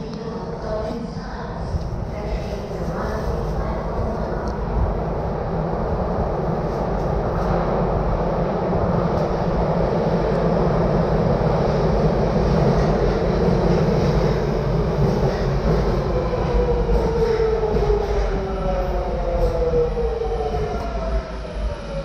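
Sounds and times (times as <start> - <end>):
subway train rumble: 0.0 - 22.0.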